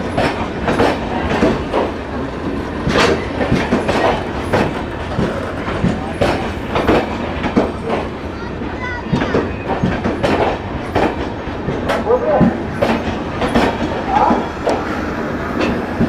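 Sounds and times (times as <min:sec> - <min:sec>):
train rumble: 0:00.0 - 0:16.0
wheels clattering over rail joints: 0:00.0 - 0:16.0.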